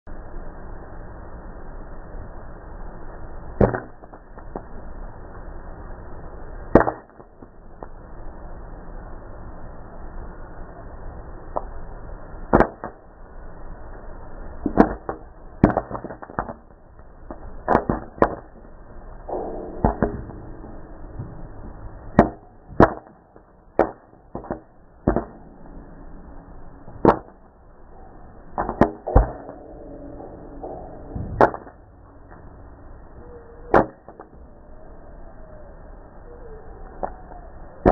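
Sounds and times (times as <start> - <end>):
faint steady hiss: 0.1 - 37.9.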